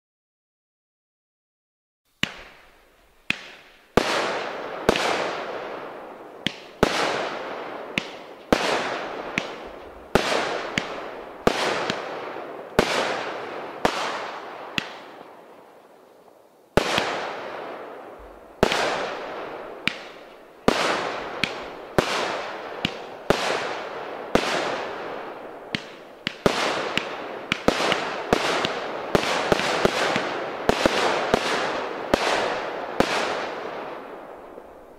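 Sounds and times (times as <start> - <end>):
firework shots popping and hissing: 2.1 - 34.9.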